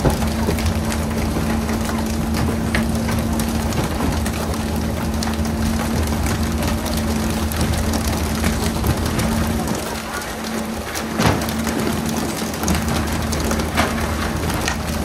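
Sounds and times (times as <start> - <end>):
boat engine hum: 0.0 - 15.0
rushing spraying water: 0.0 - 15.0.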